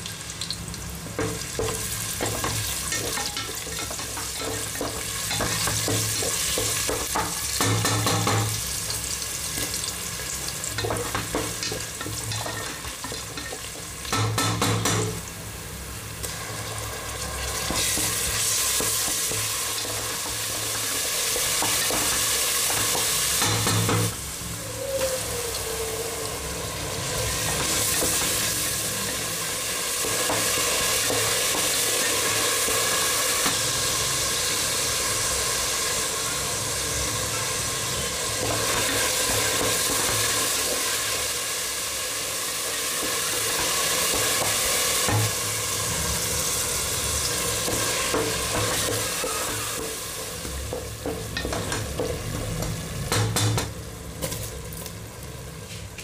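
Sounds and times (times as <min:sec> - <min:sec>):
onions sizzling in oil: 0:00.0 - 0:56.0.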